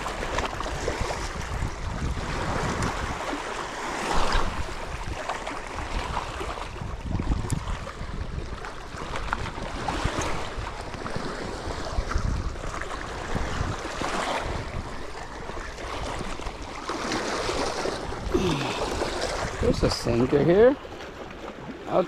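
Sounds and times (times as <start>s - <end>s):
wind gusting on microphone: 0.0s - 20.6s
water washing against shore: 0.0s - 22.0s.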